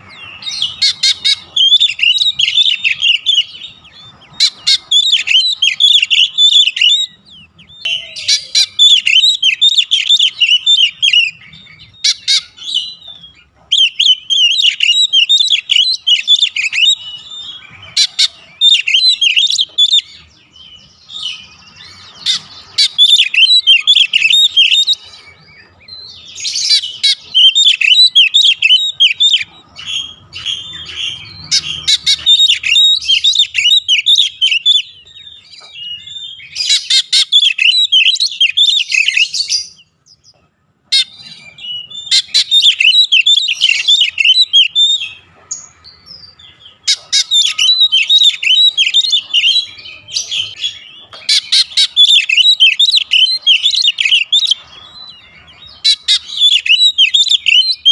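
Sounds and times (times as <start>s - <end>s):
bird singing chirps and trills: 0.0s - 57.9s.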